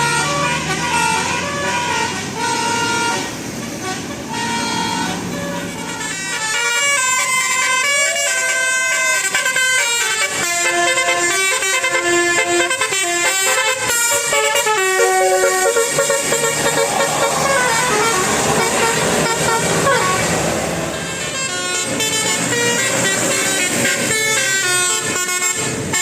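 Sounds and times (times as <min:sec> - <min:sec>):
musical bus horn tune: 0:00.0 - 0:26.0.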